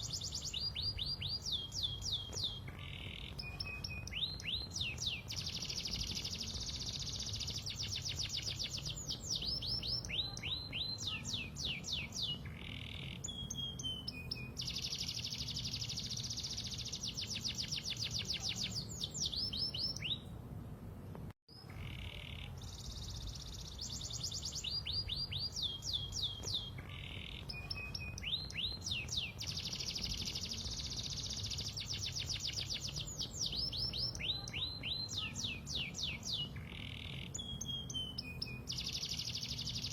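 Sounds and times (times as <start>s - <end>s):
canary singing trills: 0.0s - 20.4s, 21.5s - 39.9s.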